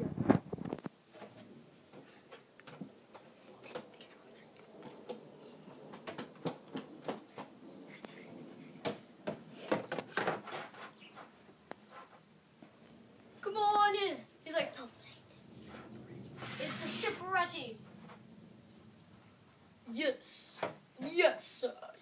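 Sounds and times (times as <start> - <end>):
props rustling: 0.0 - 19.5.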